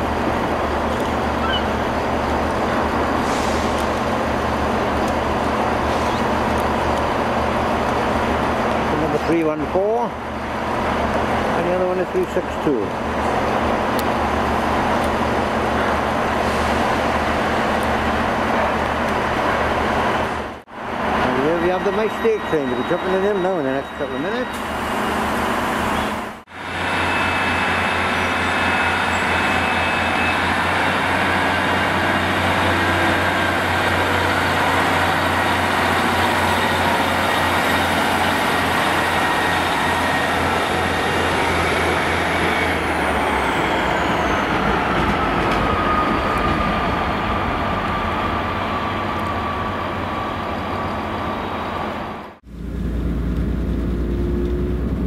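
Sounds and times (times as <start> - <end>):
diesel train engine running: 0.0 - 55.0.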